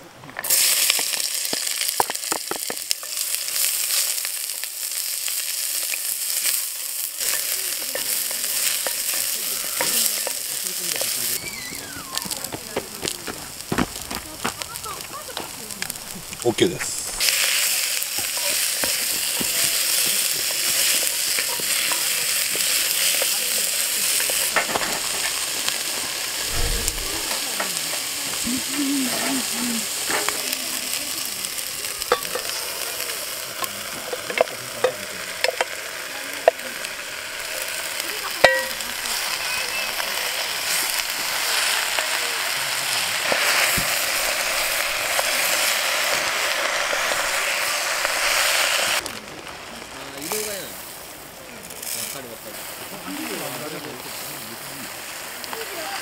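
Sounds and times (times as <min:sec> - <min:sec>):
vegetables sizzling in a pot: 0:00.4 - 0:56.0.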